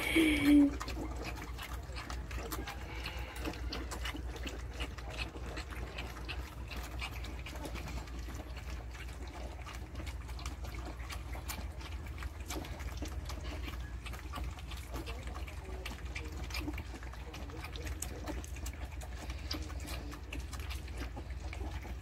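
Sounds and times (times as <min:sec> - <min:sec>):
low steady hum: 0:00.0 - 0:22.0
puppies lapping food: 0:00.0 - 0:22.0.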